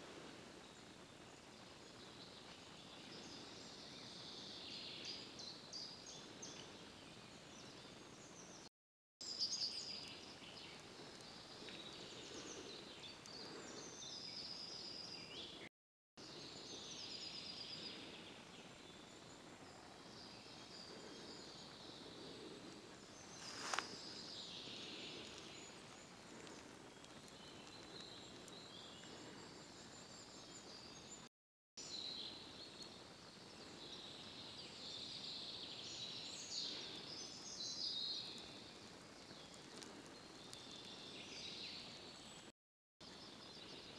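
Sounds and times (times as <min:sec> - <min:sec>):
soft forest hiss: 0:00.0 - 0:43.9
songbirds singing and calling: 0:00.0 - 0:43.9.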